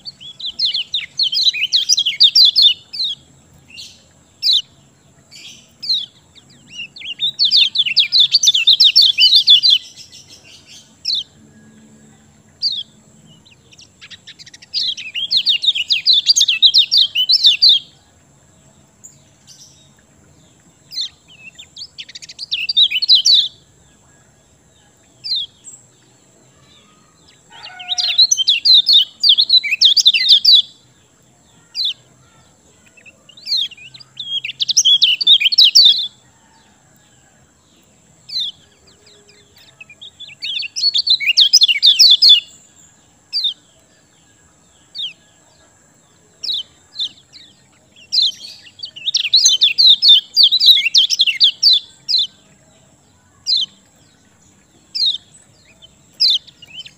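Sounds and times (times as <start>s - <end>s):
songbird twittering song: 0.0s - 56.9s.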